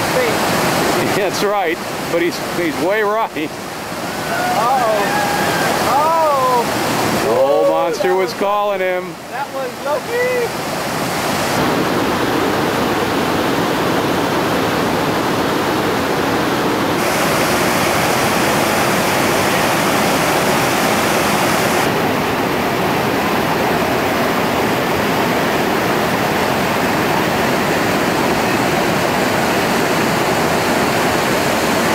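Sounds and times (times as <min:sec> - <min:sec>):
whitewater rapids rushing: 0:00.0 - 0:31.9.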